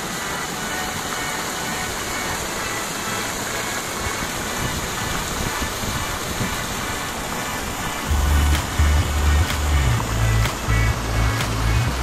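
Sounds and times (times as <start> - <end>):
fountain splashing: 0.0 - 12.0
music playing: 0.0 - 12.0.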